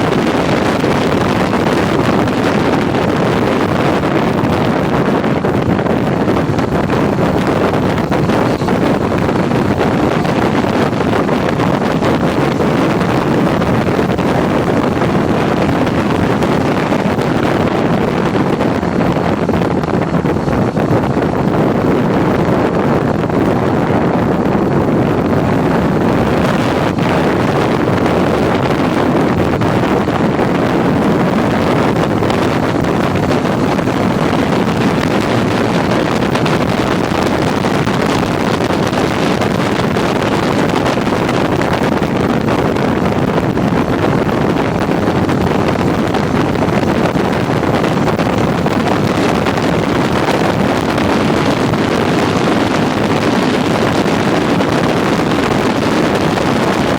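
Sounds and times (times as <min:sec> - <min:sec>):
motorcycle engine running: 0:00.0 - 0:56.9
wind rush on microphone: 0:00.0 - 0:56.9.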